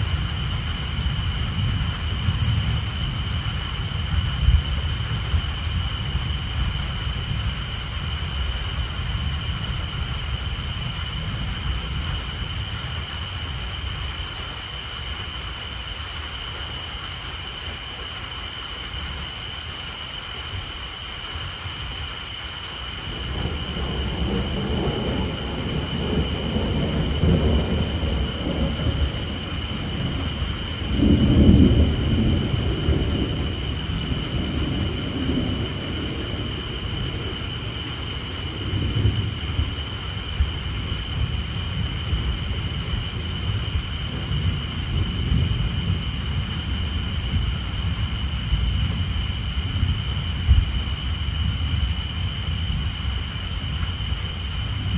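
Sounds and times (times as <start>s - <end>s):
low thunder rumbling: 0.0s - 17.7s, 21.9s - 54.9s
rain on a tin roof: 0.0s - 54.9s
tree frogs chorus: 0.0s - 54.9s.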